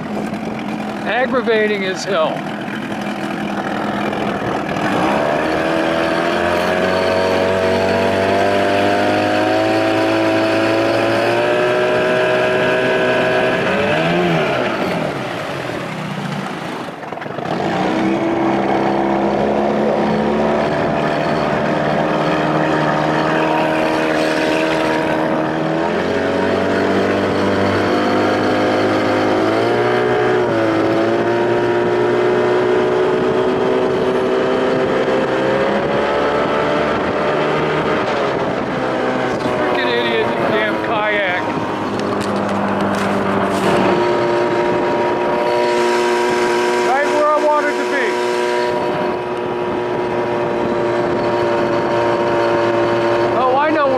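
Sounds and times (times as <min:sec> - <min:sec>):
outboard motor running: 0:00.0 - 0:53.9.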